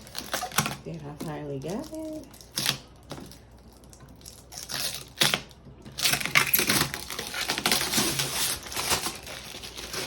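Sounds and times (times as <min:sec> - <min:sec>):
packaging wrap crinkling: 0:00.0 - 0:10.0.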